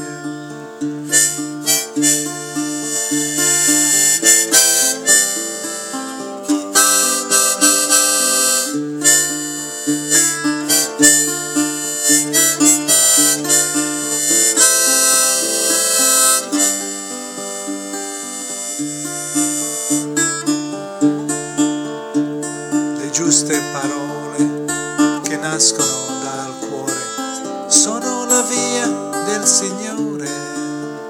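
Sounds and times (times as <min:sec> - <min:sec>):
acoustic guitar accompaniment: 0:00.0 - 0:31.0
harmonica melody: 0:00.0 - 0:31.0.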